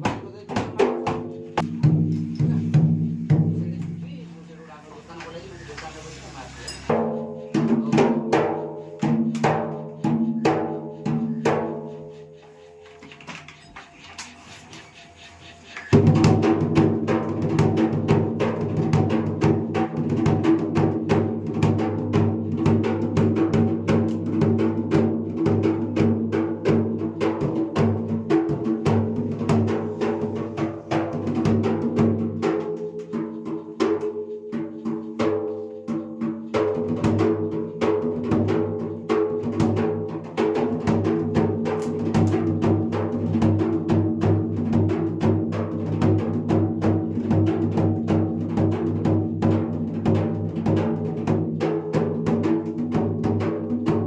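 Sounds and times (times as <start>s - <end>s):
barrel drum played fast: 0.0s - 5.7s, 6.9s - 12.5s, 13.9s - 54.0s.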